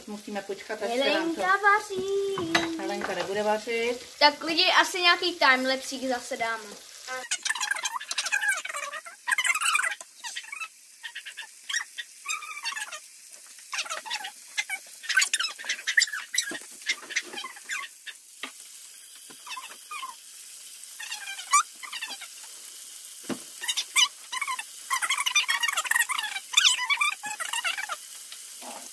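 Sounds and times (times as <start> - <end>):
chicken frying in oil: 0.0 - 28.9.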